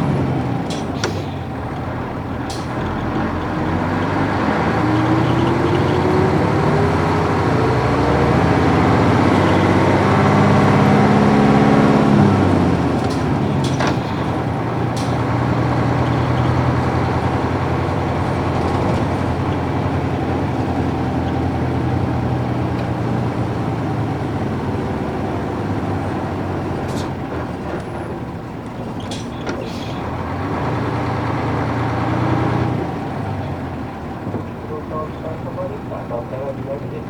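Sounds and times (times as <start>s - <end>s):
bus diesel engine running: 0.0s - 37.0s.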